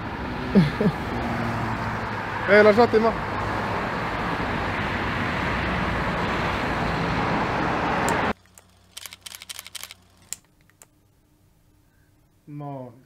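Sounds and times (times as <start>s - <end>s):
city traffic roar: 0.0s - 10.8s.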